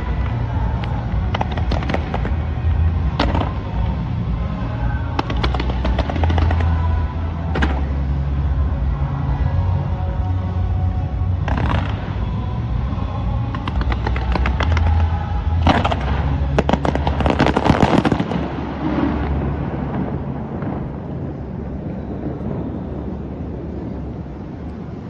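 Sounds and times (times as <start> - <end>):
fireworks bangs and crackles: 0.0 - 9.7, 11.0 - 25.0.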